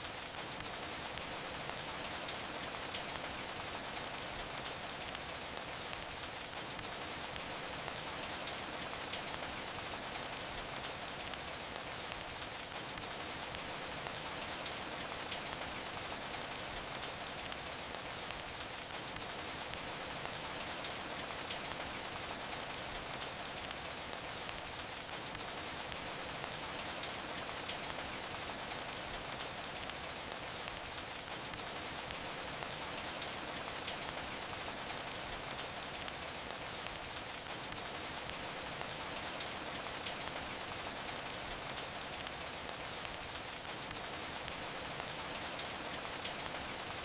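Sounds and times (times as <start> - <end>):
sharp rain ticks and pops: 0.0 - 47.0
steady rain hiss: 0.0 - 47.0.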